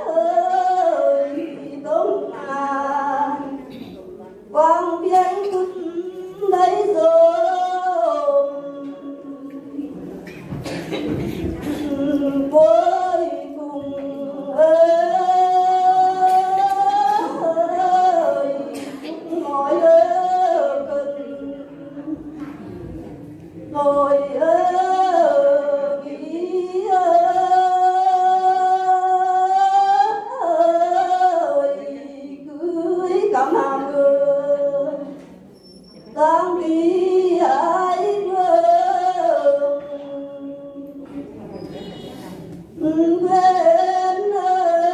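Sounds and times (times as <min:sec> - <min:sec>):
woman singing unaccompanied: 0:00.0 - 0:10.2, 0:11.4 - 0:22.4, 0:23.6 - 0:35.3, 0:36.1 - 0:41.2, 0:42.8 - 0:44.9.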